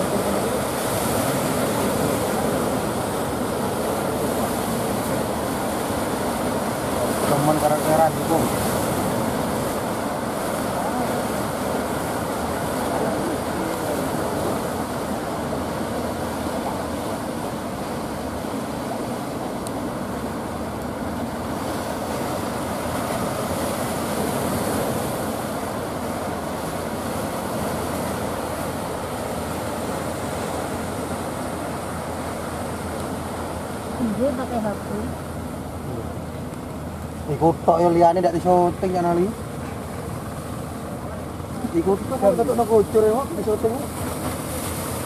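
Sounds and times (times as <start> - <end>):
boat engine rumble: 0.0 - 45.0
surf washing: 0.0 - 45.0.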